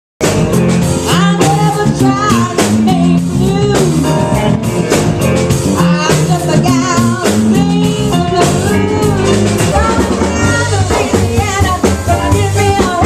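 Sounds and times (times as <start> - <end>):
band playing: 0.2 - 13.0
person singing: 1.1 - 4.5, 5.7 - 13.0.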